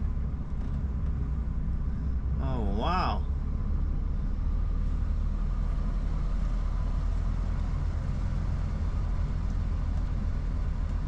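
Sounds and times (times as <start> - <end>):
lorry diesel engine rumbling: 0.0 - 11.0.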